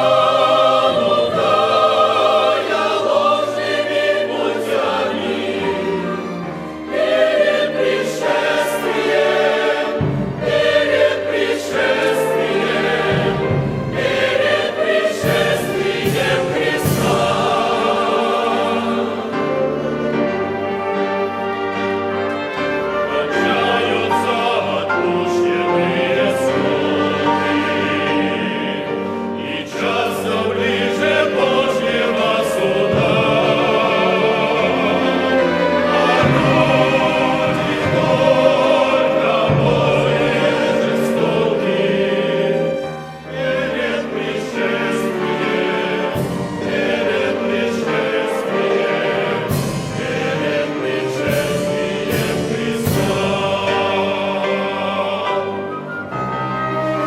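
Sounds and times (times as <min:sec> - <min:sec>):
choir singing a hymn: 0:00.0 - 0:57.0
orchestral accompaniment: 0:00.0 - 0:57.0.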